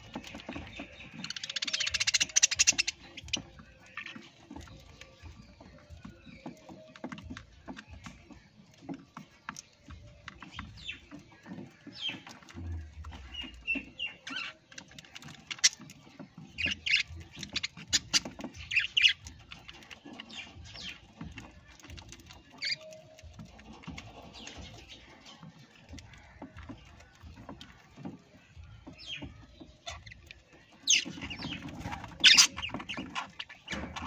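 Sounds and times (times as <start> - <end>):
parrots chirping and squawking: 0.0 - 7.0, 10.8 - 28.2, 28.8 - 34.0
clicks and scratches: 0.0 - 34.0.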